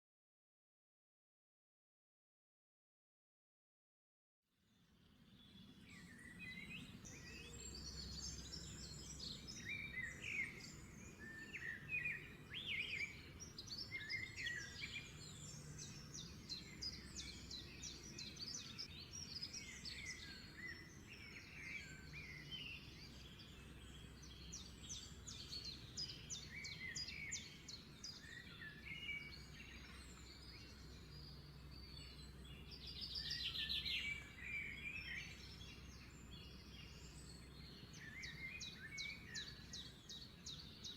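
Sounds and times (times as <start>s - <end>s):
small birds chirping and singing: 4.7s - 40.9s.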